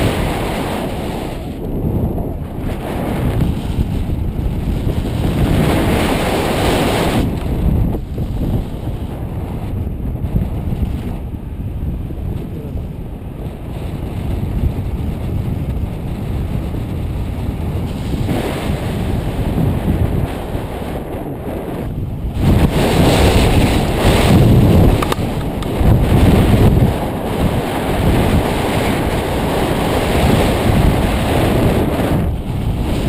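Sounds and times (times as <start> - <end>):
wind noise on microphone: 0.0 - 33.0.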